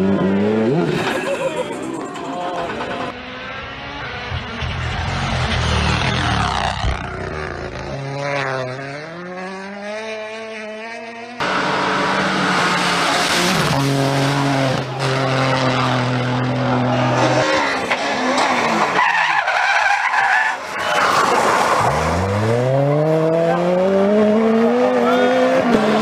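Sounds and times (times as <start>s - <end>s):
engine accelerating hard: 0.0s - 19.0s, 21.7s - 26.0s
rally car engine under load: 0.0s - 26.0s.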